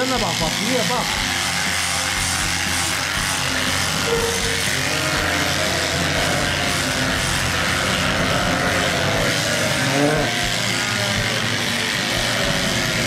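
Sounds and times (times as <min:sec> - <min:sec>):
electric shearing machine hum: 0:00.0 - 0:13.0.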